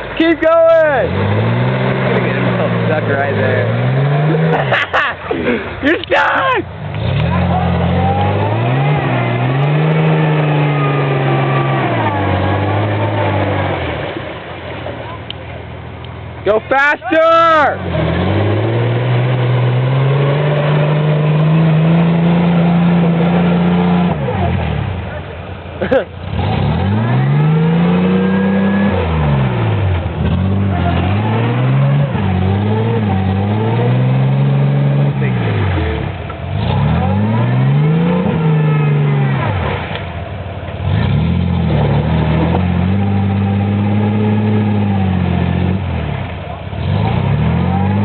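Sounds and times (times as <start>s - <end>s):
pickup truck engine revving: 0.0s - 48.0s.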